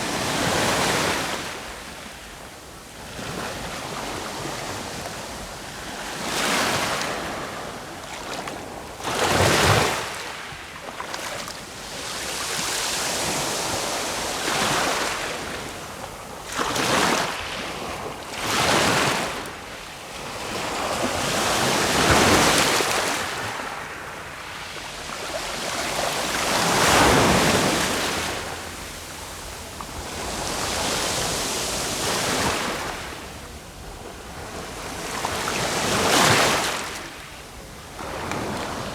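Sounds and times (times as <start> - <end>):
sea waves breaking on shore: 3.0 - 38.9.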